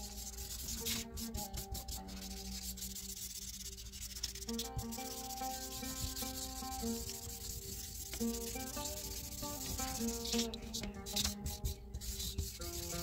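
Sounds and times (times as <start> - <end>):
background music of held notes: 0.0 - 13.0
hand rubbing on paper: 0.0 - 13.0.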